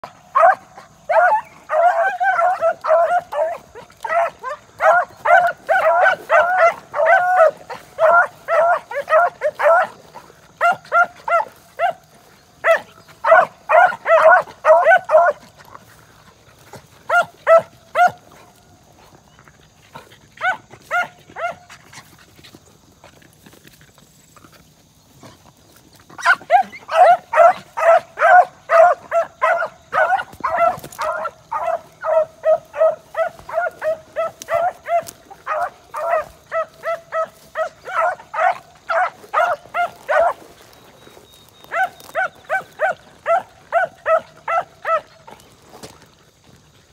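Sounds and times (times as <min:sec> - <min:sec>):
hound barking: 0:00.0 - 0:15.9, 0:17.1 - 0:18.5, 0:20.4 - 0:21.8, 0:26.2 - 0:46.0.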